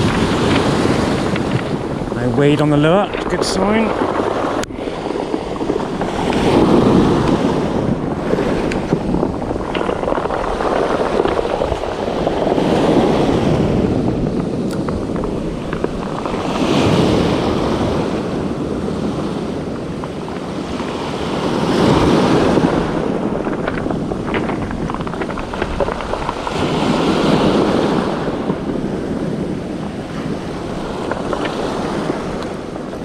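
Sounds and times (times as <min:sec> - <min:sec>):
waves breaking on pebble beach: 0:00.0 - 0:33.0.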